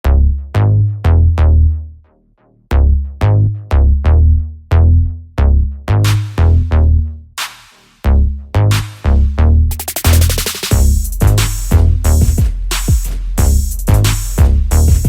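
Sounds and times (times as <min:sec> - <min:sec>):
electronic music with booming bass: 0:00.0 - 0:01.9, 0:02.7 - 0:15.0.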